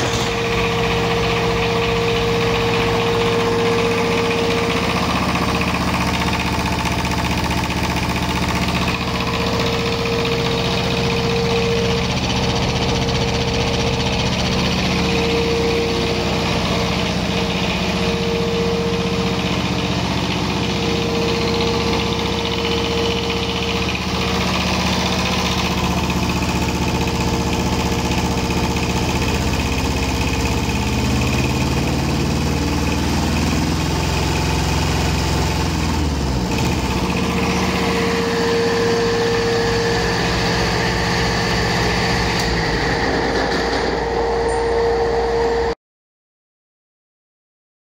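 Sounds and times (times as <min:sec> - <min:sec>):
diesel engine running: 0:00.0 - 0:45.8.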